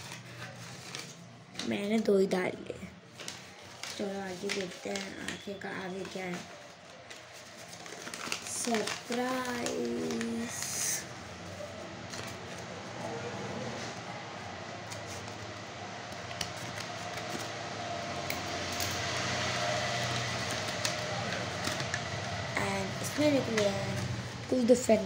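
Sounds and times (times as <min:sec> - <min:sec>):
paper packet clicks and rustles: 0:00.0 - 0:02.1, 0:03.1 - 0:14.0, 0:14.8 - 0:25.0.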